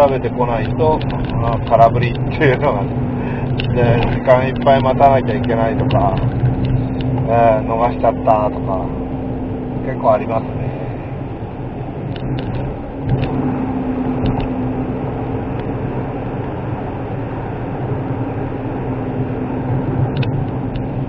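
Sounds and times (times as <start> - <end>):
car engine hum: 0.0 - 21.0
tyre road noise: 0.0 - 21.0.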